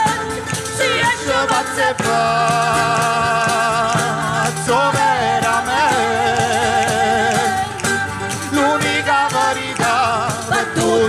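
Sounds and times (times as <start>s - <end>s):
accordion: 0.0s - 11.0s
percussion beat: 0.0s - 11.0s
voices singing with vibrato: 0.0s - 11.0s.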